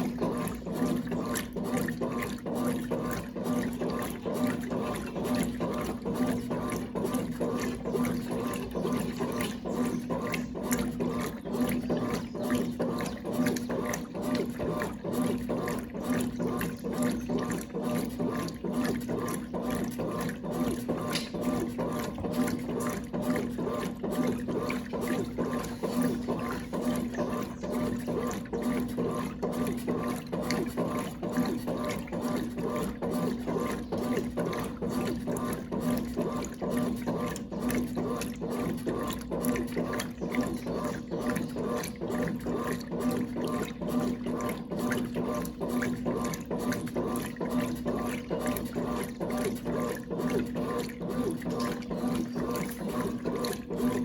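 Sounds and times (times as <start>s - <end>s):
washing machine motor hum: 0.0s - 54.0s
washing machine water sloshing: 0.0s - 54.0s.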